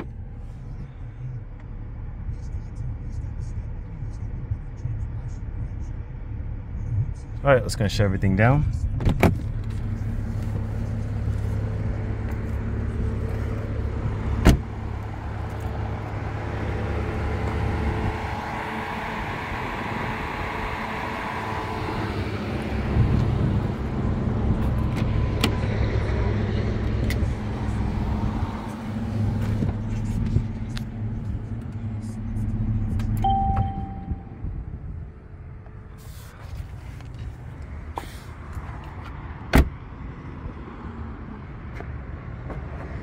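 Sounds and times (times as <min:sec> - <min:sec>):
car engine idling: 0:00.0 - 0:08.8, 0:09.4 - 0:39.0.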